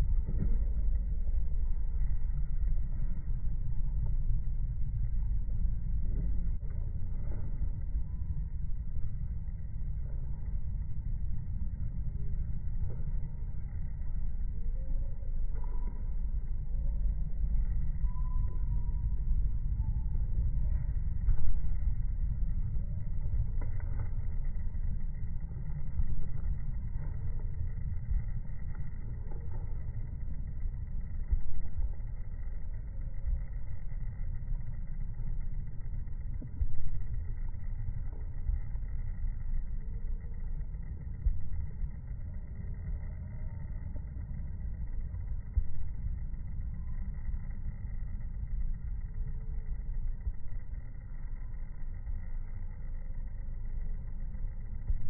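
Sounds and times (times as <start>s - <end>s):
low background rumble: 0.0s - 55.0s.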